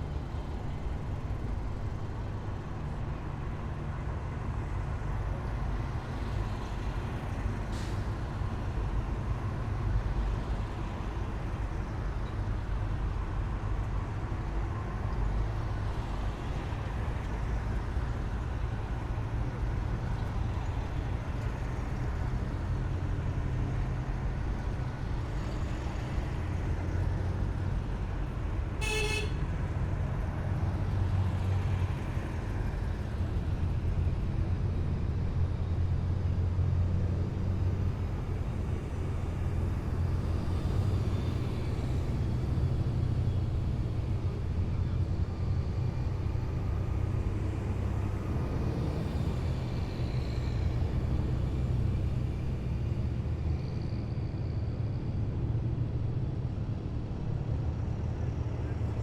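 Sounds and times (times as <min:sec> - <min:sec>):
heavy vehicles driving past: 0:04.4 - 0:59.0.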